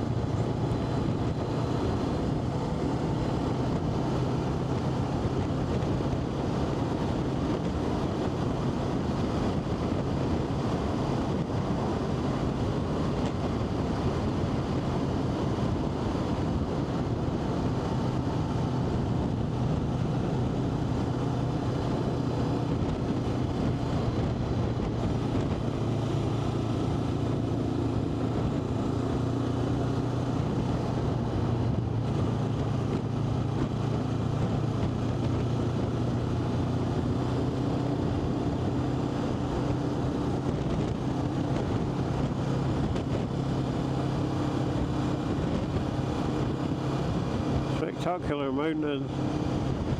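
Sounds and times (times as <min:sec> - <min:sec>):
road and wind noise: 0:00.0 - 0:49.9
vehicle engine drone: 0:00.0 - 0:49.9.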